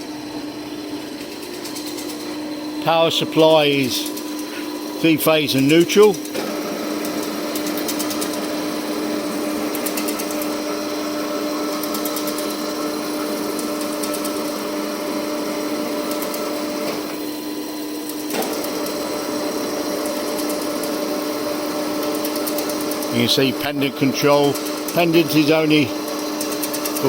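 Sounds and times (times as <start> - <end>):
electric drive humming: 0.0 - 27.0.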